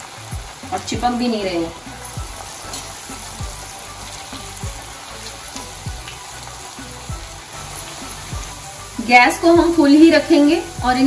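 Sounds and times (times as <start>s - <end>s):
background music with deep bass: 0.0s - 11.0s
potato strips deep-frying in oil: 0.0s - 11.0s.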